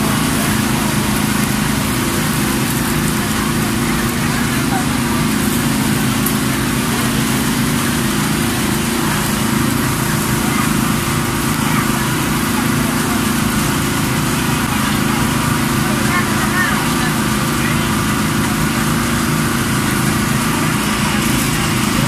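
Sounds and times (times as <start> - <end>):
food frying on a griddle: 0.0 - 22.0
small engine droning: 0.0 - 22.0.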